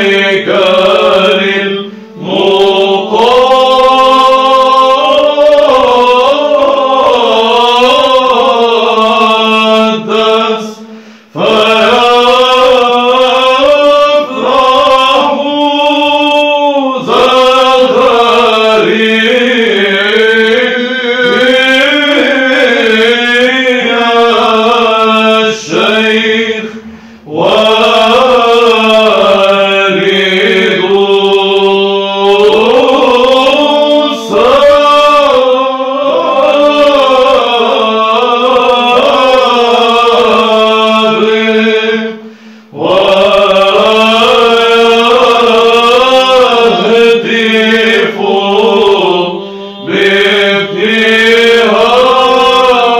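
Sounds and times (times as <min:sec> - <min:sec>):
held vocal drone: 0:00.0 - 0:52.9
men chanting melody: 0:00.0 - 0:52.9.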